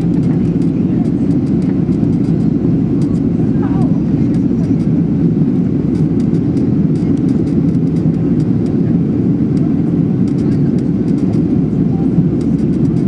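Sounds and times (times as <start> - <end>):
airplane cabin jet engine noise: 0.0 - 13.0.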